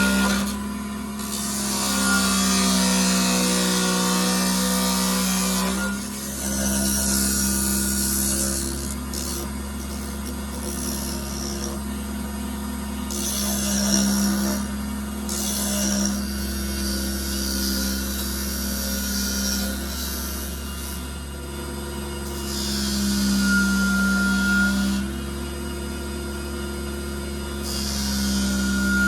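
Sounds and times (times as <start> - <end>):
power tool motor running: 0.0 - 29.0
tool scraping wood: 0.0 - 29.0.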